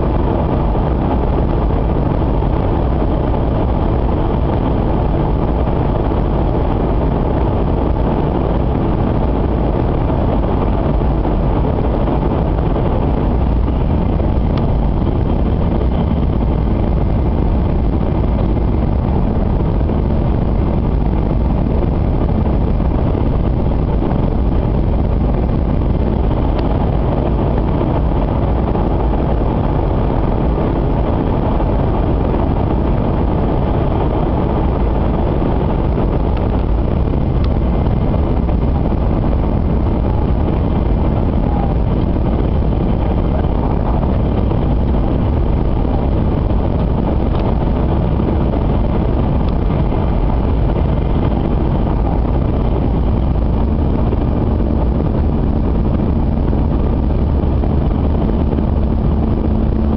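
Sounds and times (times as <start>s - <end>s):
train rumbling at speed: 0.0s - 59.9s.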